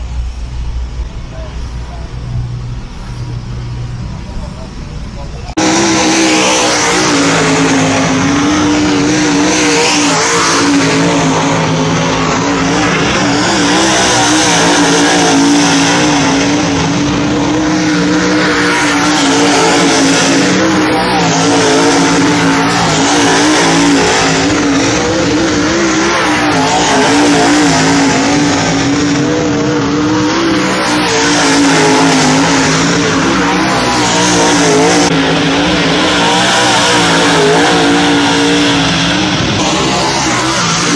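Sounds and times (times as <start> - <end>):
race car engines droning: 0.0 - 40.9.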